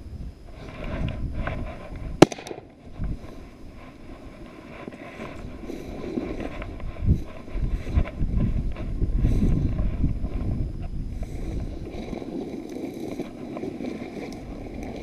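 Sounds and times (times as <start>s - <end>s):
rustling of dry grass: 0.0s - 15.0s
wind buffeting microphone: 0.0s - 15.0s.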